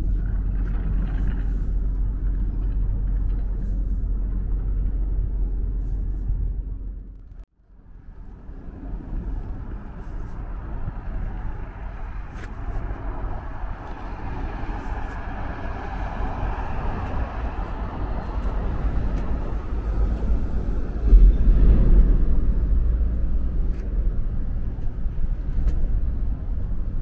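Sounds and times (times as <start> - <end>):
train rumbling inside carriage: 0.0 - 27.0.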